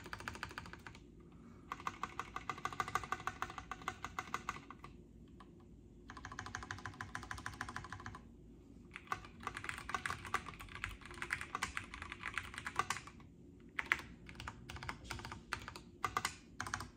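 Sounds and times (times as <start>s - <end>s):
typing on mechanical keyboard: 0.0s - 1.0s, 1.7s - 8.2s, 8.9s - 16.9s.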